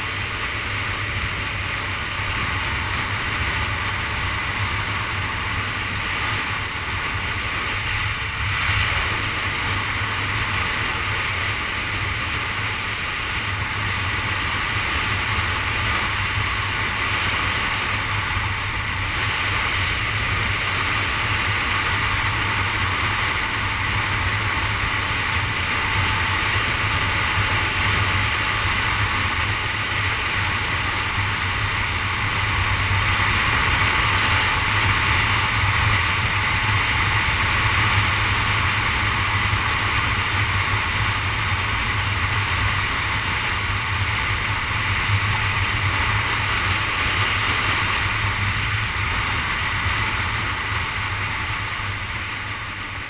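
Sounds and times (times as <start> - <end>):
car engine hum: 0.0 - 53.0
road and wind noise: 0.0 - 53.0.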